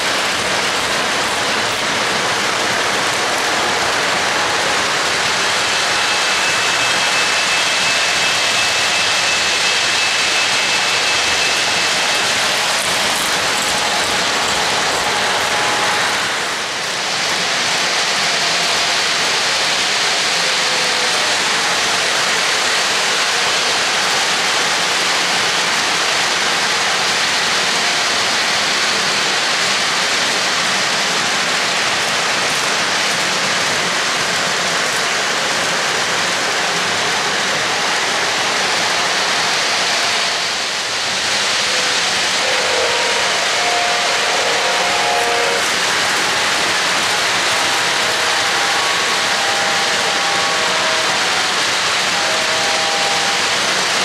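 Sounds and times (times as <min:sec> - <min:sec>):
model train wheels on rails: 0:00.0 - 0:54.0.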